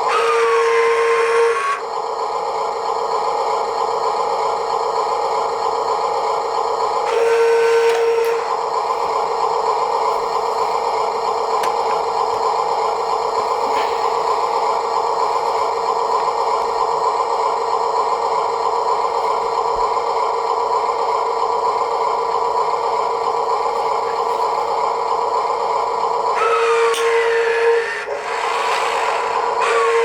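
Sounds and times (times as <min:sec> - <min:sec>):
electric motors and gears whining: 0:00.0 - 0:30.0.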